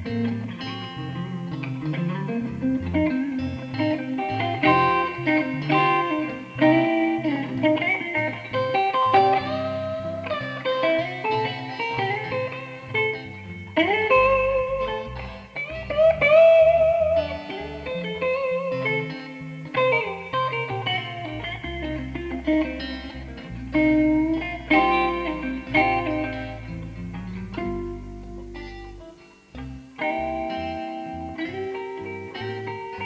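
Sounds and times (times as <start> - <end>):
electric guitar bluesy lead: 0.0 - 33.0.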